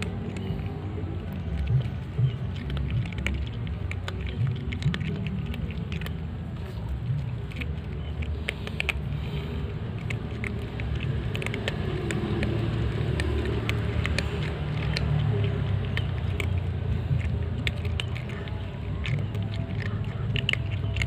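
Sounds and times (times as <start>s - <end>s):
cats crunching dry kibble: 0.0s - 21.0s
steady low rumble: 0.0s - 21.0s.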